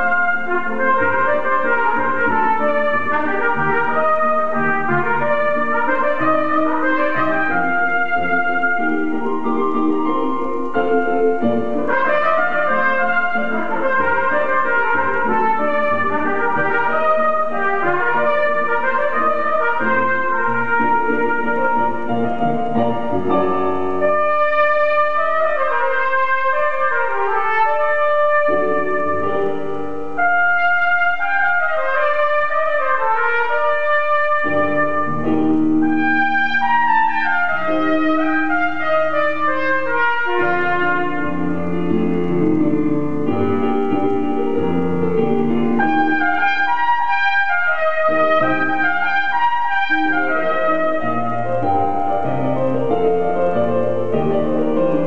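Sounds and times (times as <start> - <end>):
cornet solo melody: 0.0 - 55.0
keyboard accompaniment: 0.0 - 55.0.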